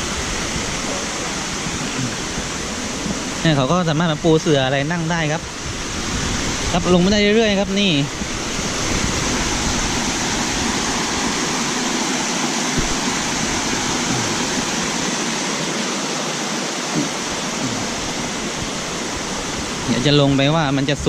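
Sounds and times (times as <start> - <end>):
waterfall pouring and splashing: 0.0 - 21.0.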